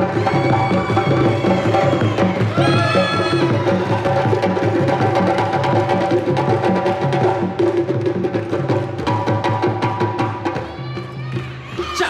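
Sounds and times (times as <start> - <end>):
drums playing fast rhythm: 0.0 - 12.0.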